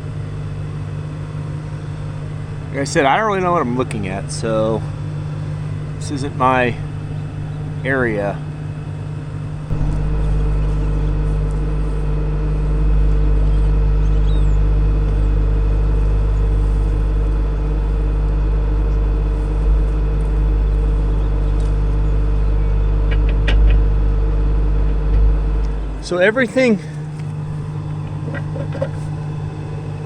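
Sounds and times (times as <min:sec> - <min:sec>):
engine idling with low rumble: 0:00.0 - 0:30.0.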